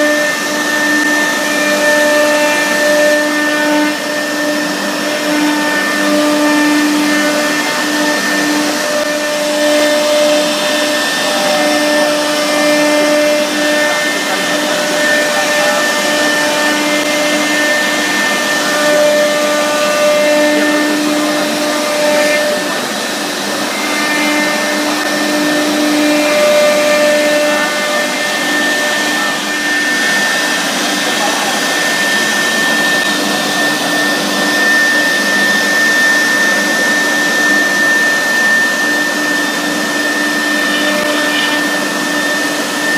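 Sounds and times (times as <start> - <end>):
cutter rushing through wood: 0.0 - 42.9
router spindle high whine: 0.0 - 42.9.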